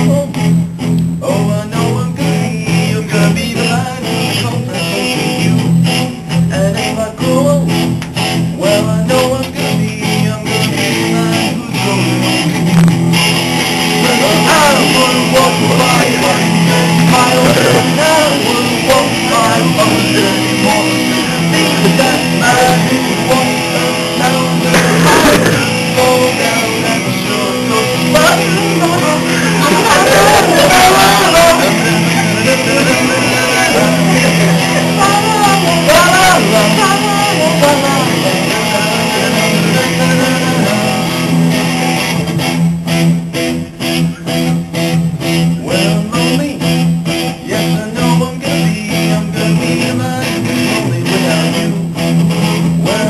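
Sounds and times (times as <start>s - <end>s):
person singing: 0.0s - 0.5s, 1.1s - 12.8s, 13.8s - 42.0s, 45.5s - 53.0s
rock guitar: 0.0s - 53.0s.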